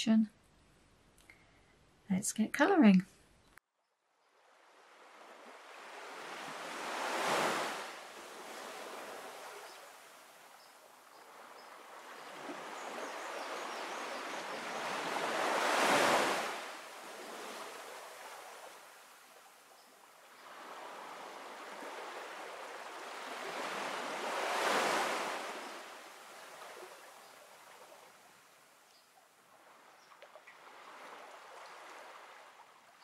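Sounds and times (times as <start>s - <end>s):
ocean waves: 4.4s - 33.0s.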